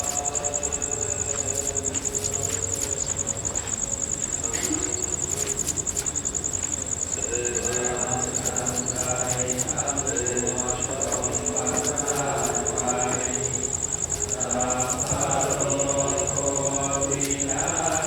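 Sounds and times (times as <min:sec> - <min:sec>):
crickets chirping: 0:00.0 - 0:18.0
faint voices: 0:00.0 - 0:18.0.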